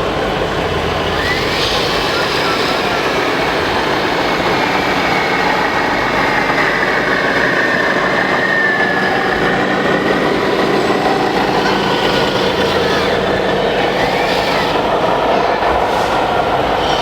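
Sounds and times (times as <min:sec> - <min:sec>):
model machines running: 0:00.0 - 0:17.0.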